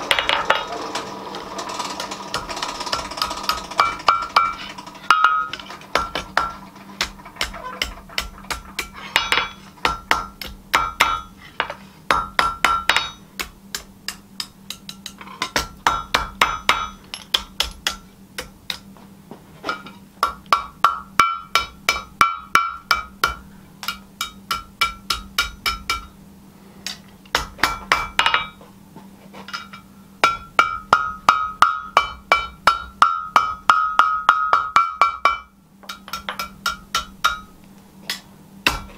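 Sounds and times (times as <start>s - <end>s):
hammer striking steel on anvil: 2.3s - 18.9s, 19.7s - 26.2s, 26.8s - 28.6s, 29.5s - 38.9s.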